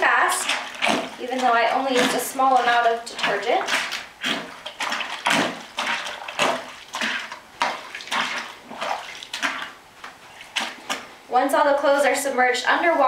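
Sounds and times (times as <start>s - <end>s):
plunger sloshing soapy water: 0.0s - 11.2s.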